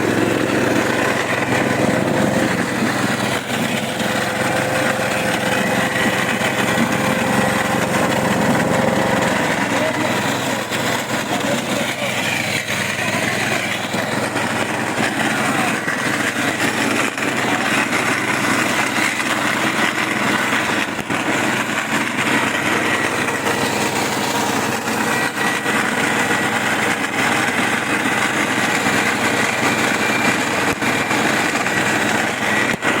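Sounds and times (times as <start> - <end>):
pulping machine droning: 0.0 - 33.0.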